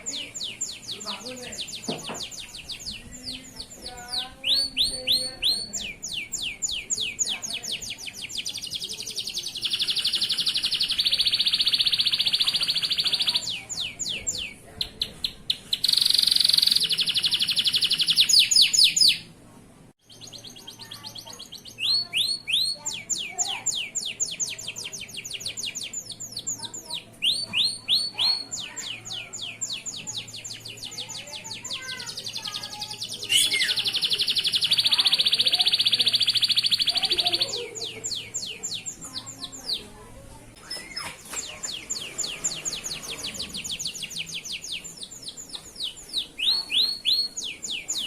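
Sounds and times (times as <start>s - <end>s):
canary singing: 0.0s - 19.4s, 20.0s - 48.0s.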